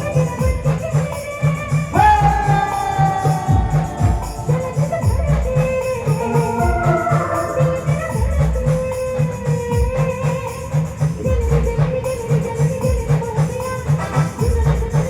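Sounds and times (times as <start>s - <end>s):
driving drum beat: 0.0s - 15.0s
shaker or tambourine: 0.0s - 15.0s.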